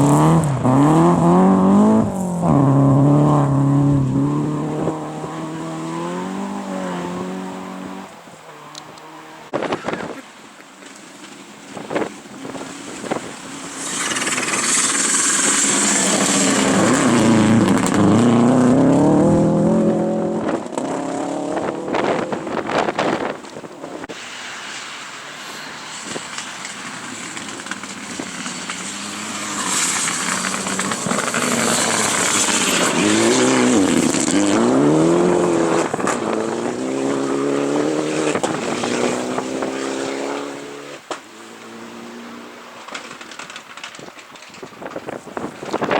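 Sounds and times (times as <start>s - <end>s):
rally cars passing and accelerating: 0.0s - 45.9s.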